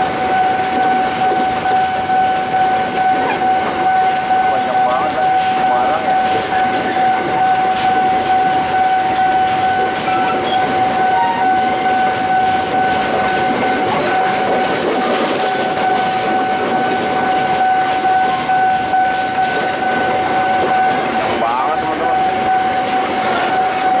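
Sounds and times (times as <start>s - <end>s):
constant high tone: 0.0s - 24.0s
train wheels on rail: 0.0s - 24.0s.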